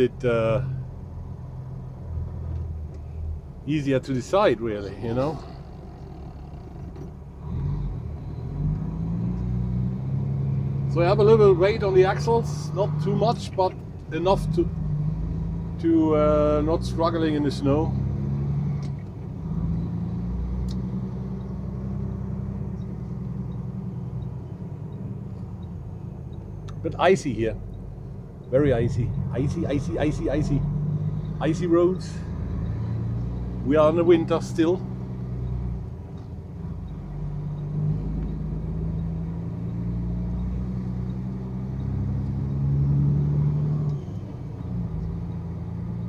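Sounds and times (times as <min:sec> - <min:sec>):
road noise: 0:00.0 - 0:46.0
truck engine low rumble: 0:00.0 - 0:46.0.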